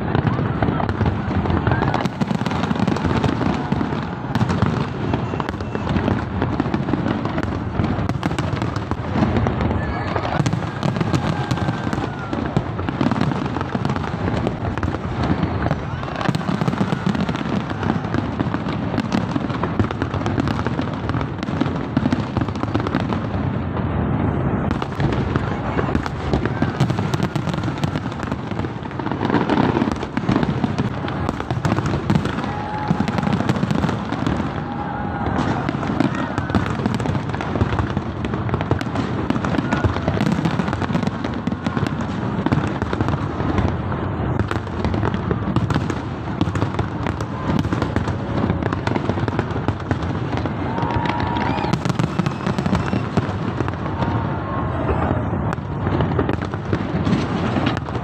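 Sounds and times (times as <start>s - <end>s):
crowd voices: 0.0s - 58.0s
fireworks bangs and crackling: 0.0s - 58.0s.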